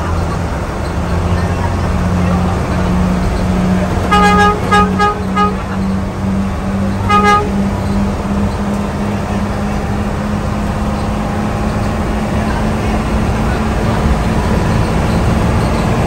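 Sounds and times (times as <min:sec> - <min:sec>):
bus engine droning: 0:00.0 - 0:16.0
bus horn tooting: 0:00.0 - 0:16.0.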